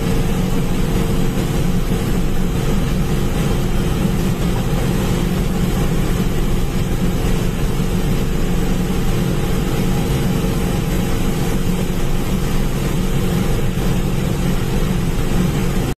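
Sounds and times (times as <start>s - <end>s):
harvester engine and machinery droning: 0.0s - 16.0s.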